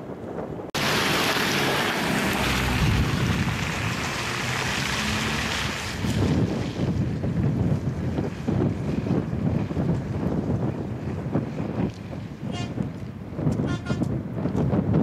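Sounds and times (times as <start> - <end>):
wind buffeting microphone: 0.0 - 15.0
low rumble: 0.1 - 13.0.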